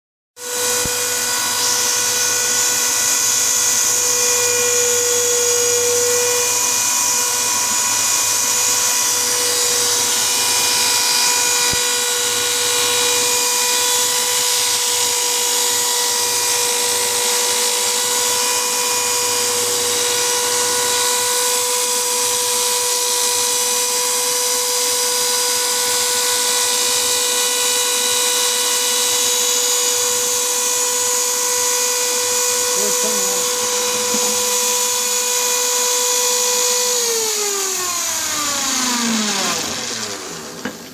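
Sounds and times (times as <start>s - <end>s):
electric drill whining: 0.4s - 40.9s.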